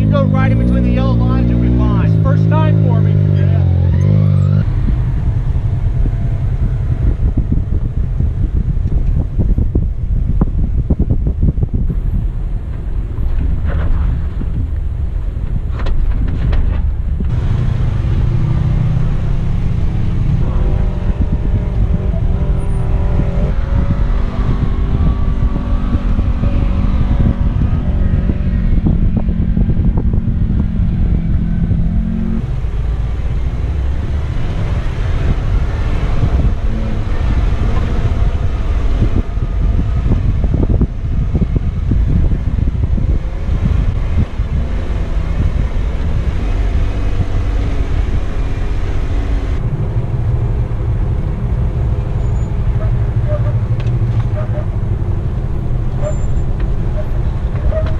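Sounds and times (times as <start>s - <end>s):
car engine running: 0.0s - 57.9s
rough rumbling with knocks: 0.0s - 57.9s.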